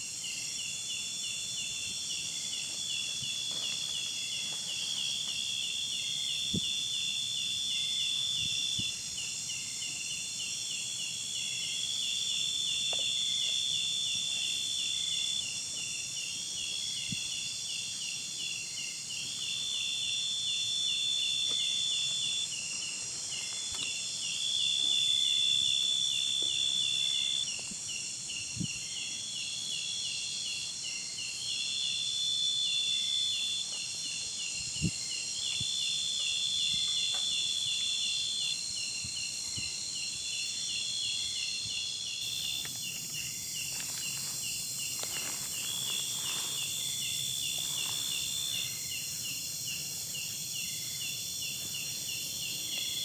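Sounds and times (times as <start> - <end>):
crickets chirping: 0.0 - 53.0
high hiss of insects: 0.0 - 53.0
high insect trill: 0.0 - 53.0.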